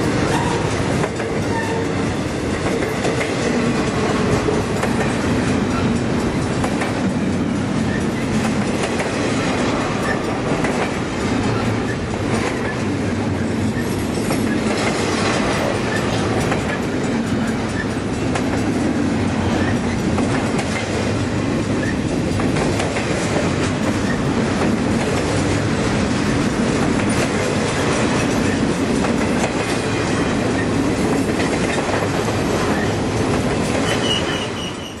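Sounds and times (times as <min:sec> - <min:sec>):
freight train rumbling past: 0:00.0 - 0:35.0
wheels clacking over rail joints: 0:00.0 - 0:35.0.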